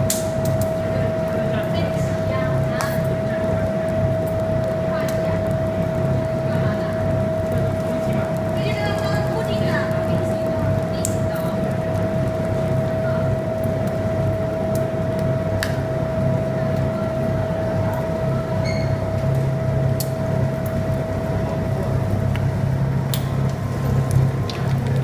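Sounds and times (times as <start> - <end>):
constant machine whine: 0.0 - 25.0
rubber mill humming: 0.0 - 25.0.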